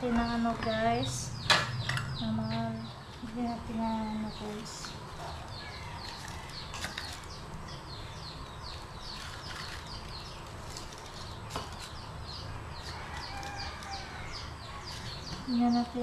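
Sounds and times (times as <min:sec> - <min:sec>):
birds chirping: 0:00.0 - 0:16.0
low steady hum: 0:00.0 - 0:16.0.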